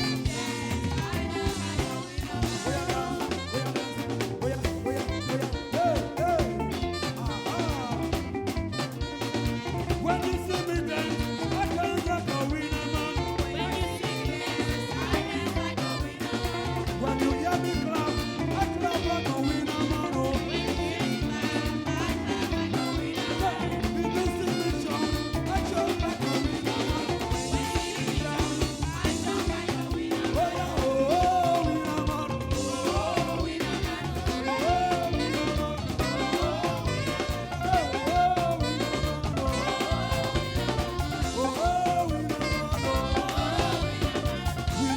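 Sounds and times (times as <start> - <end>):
drum kit beat: 0.0 - 44.9
gospel band playing: 0.0 - 44.9.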